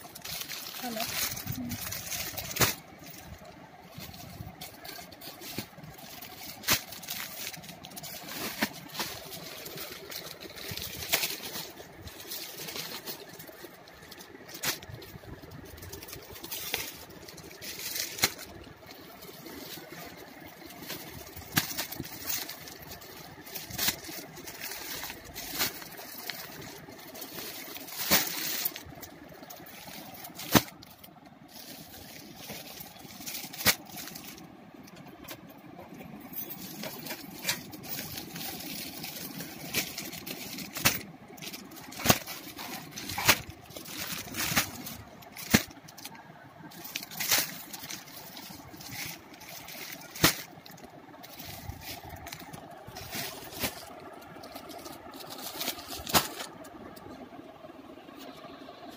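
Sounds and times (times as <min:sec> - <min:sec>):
plastic packets crinkling: 0:00.0 - 0:57.3
background noise: 0:00.0 - 0:58.9.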